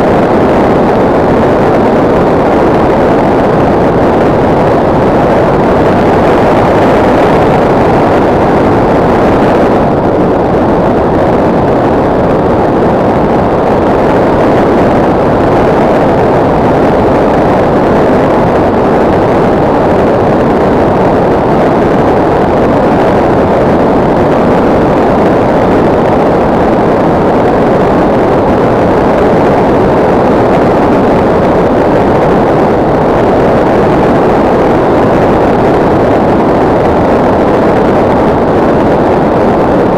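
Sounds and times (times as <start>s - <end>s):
airflow rushing over rc plane: 0.0s - 39.9s.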